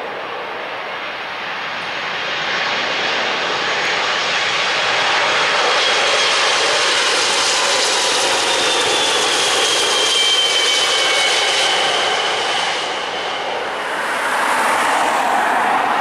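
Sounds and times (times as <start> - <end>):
jet airliner roar overhead: 0.0 - 16.0.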